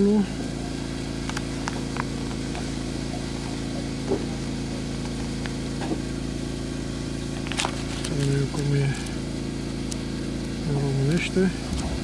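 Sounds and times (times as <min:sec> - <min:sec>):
low mechanical motor hum: 0:00.0 - 0:12.0.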